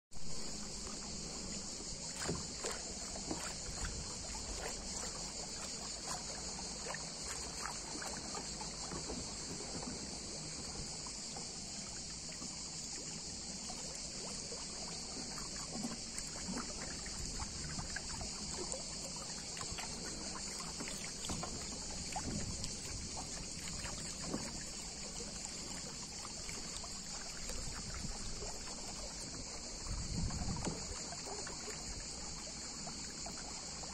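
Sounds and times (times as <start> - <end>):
cicadas buzzing: 0.2 - 33.9
water splashing against kayak: 0.2 - 33.9.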